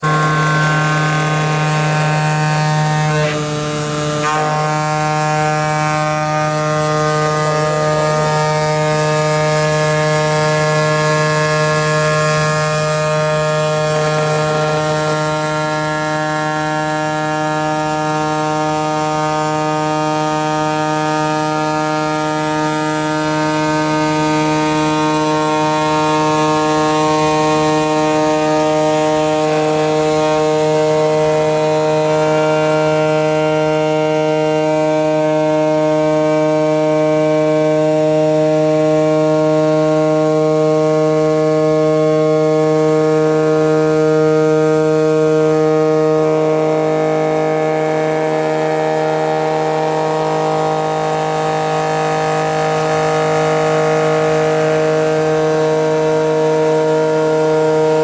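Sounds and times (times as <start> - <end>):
cutting machine humming: 0.0 - 58.0.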